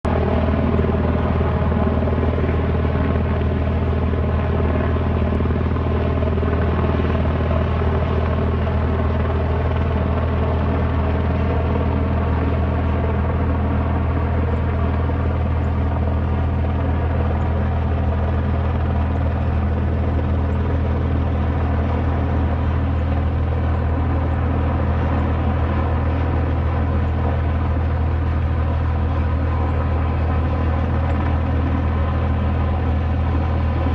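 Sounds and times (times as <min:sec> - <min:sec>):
helicopter rotor and engine drone: 0:00.0 - 0:33.9.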